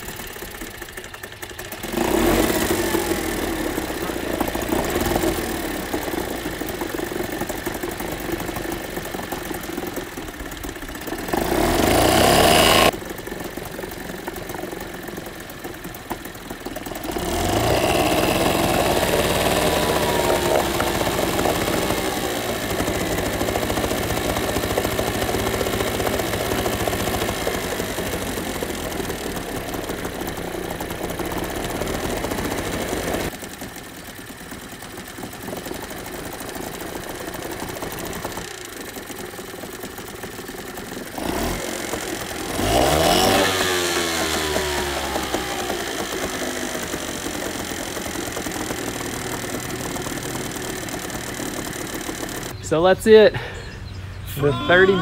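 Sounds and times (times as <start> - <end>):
outboard motor revving: 0.0 - 55.0.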